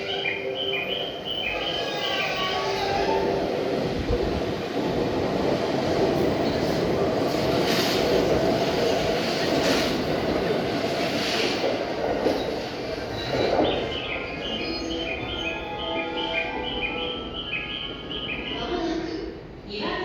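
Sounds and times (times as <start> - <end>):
high-pitched rail noise: 0.0 - 8.2, 11.1 - 19.6
train wheels rumbling on rail: 0.0 - 20.0.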